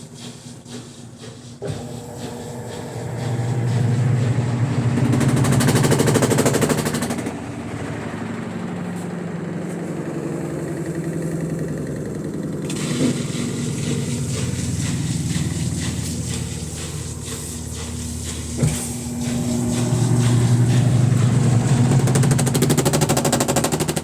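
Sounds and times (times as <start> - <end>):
washing machine spinning: 0.0 - 24.0
fast rattling clatter: 2.1 - 24.0.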